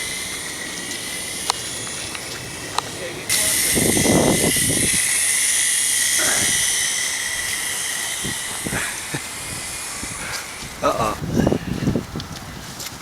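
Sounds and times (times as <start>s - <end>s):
helicopter motor and rotors whining: 0.0s - 12.2s.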